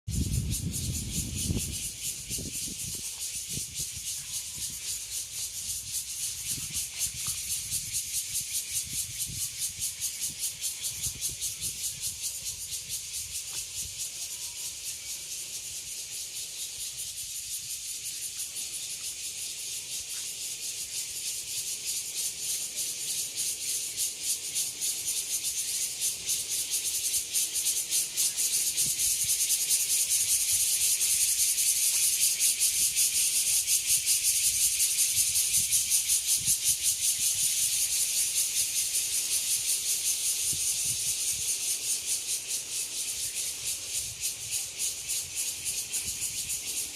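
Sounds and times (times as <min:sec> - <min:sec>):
cicadas buzzing: 0:00.1 - 0:46.9.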